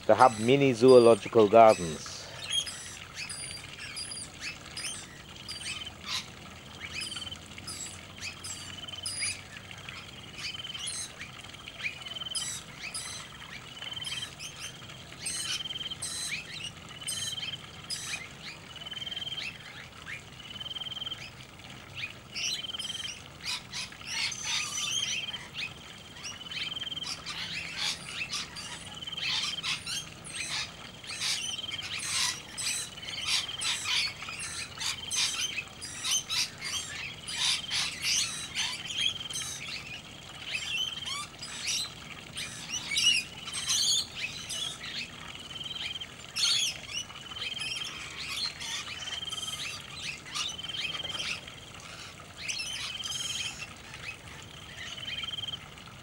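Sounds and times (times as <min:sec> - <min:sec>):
birds chirping and squawking: 0:00.0 - 0:21.2, 0:21.8 - 0:55.6.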